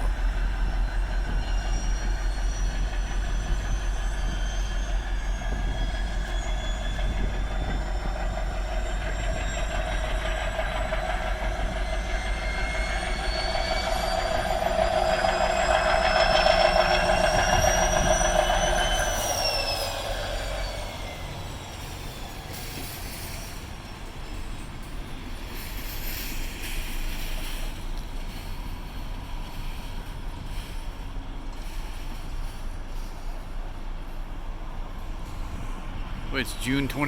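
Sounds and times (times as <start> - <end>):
diesel engines working hard: 0.0 - 37.0
engine whine: 0.0 - 37.0.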